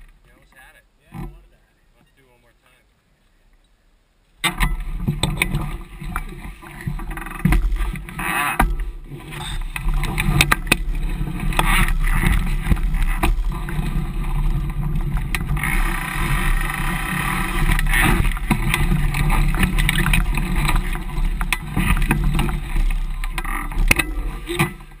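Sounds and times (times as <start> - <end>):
mountain bike tyres rumbling: 4.3 - 25.0
bike knocking and rattling: 4.4 - 25.0
wind on microphone: 4.6 - 25.0.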